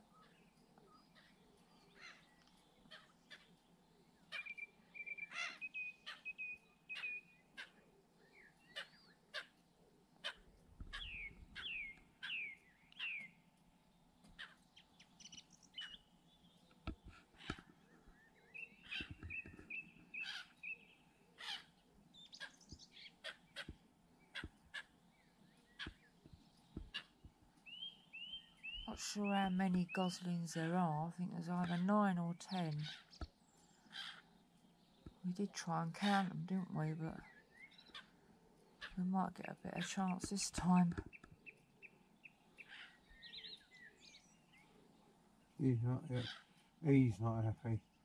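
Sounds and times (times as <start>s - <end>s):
faint bird calls: 0.0s - 13.4s, 14.2s - 48.0s.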